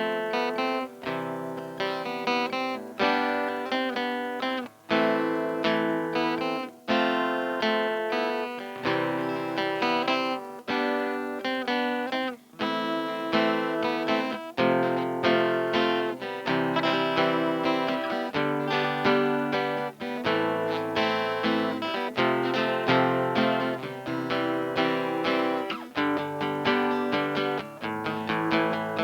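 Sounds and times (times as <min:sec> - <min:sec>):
guitar playing chords: 0:00.0 - 0:29.0.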